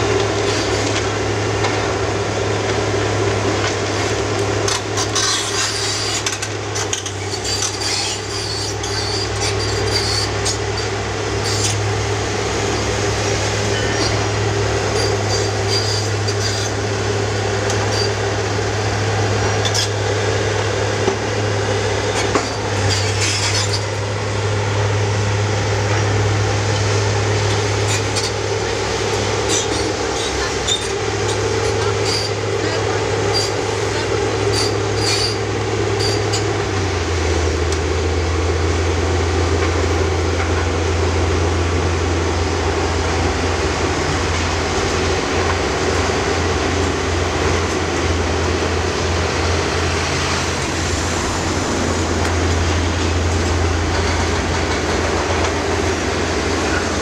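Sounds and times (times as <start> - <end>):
excavator diesel drone: 0.0 - 57.0.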